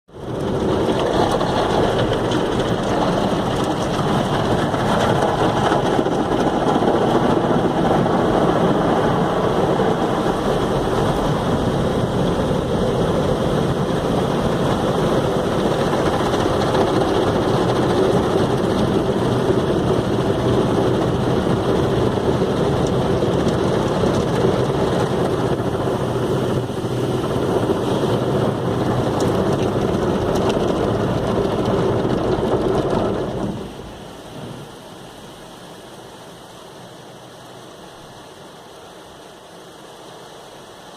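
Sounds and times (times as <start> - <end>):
car wash water spray: 0.2 - 35.8.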